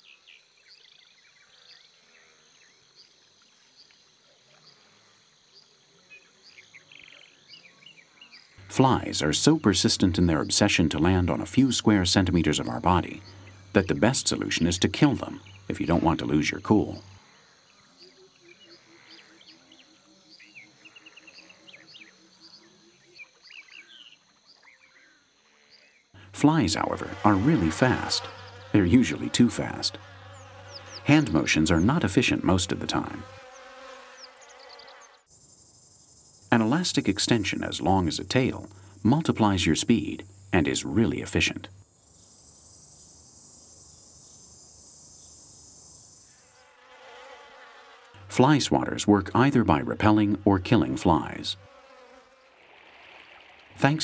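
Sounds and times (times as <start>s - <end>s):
insect and bird chirps: 0.0s - 54.0s.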